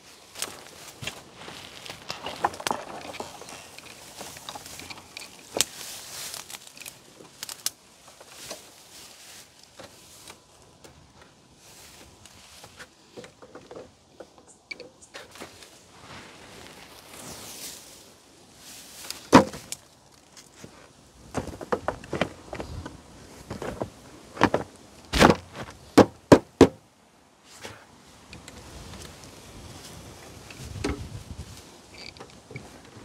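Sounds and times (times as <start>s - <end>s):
dry brush rustling and crackling: 0.0s - 26.0s, 27.4s - 33.0s.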